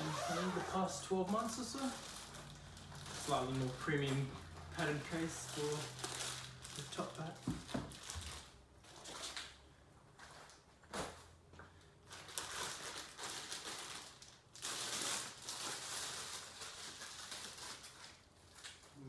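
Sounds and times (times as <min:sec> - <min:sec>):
packaging rustling and crinkling: 0:00.0 - 0:09.6, 0:12.0 - 0:19.0.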